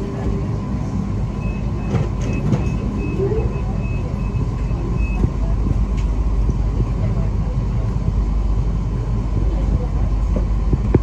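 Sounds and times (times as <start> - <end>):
train interior rumble and hum: 0.0 - 11.0.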